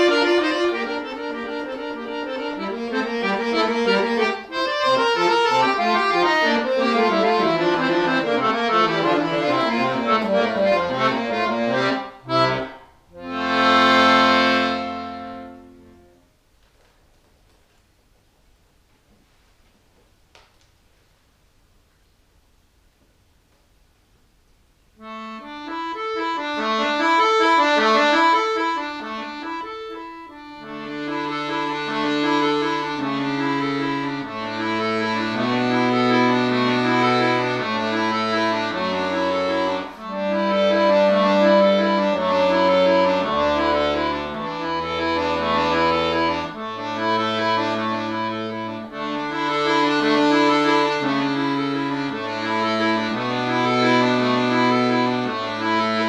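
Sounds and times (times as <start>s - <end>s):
accordion bass line: 0.0s - 16.3s, 25.0s - 56.0s
accordion treble melody: 0.0s - 16.3s, 25.0s - 56.0s.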